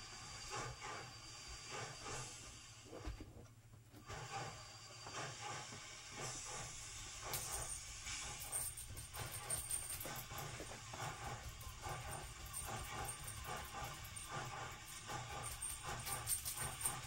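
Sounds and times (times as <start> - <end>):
steam locomotive chuffing: 0.0 - 2.9, 4.0 - 17.0
steam hiss: 0.0 - 3.0, 4.1 - 17.0.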